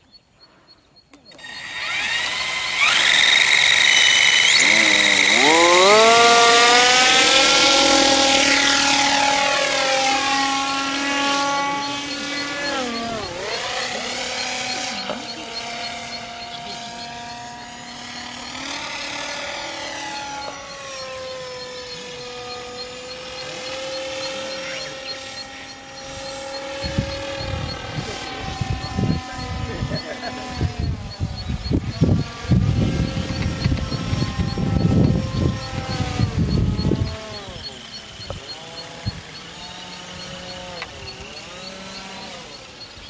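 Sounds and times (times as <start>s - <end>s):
buzzing tone climbing in pitch: 1.1s - 43.0s
model aircraft motor whine: 1.3s - 43.0s.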